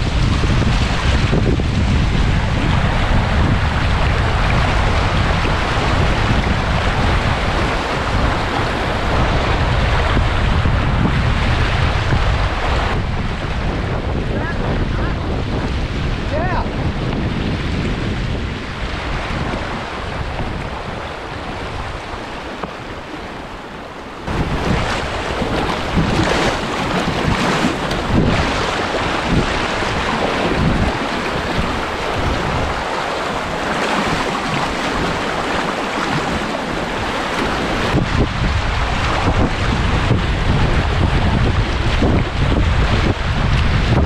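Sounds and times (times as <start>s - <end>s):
river water rushing and splashing: 0.0s - 44.0s
wind noise on microphone: 0.0s - 44.0s.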